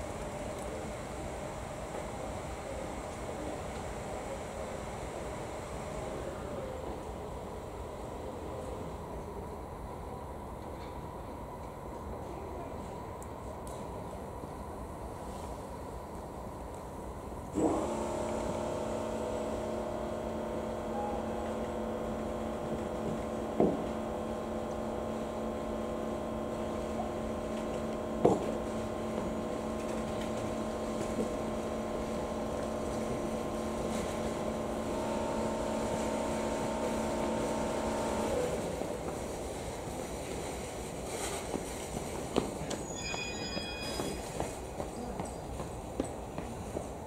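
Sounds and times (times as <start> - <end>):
diesel locomotive engine droning: 0.0 - 46.8.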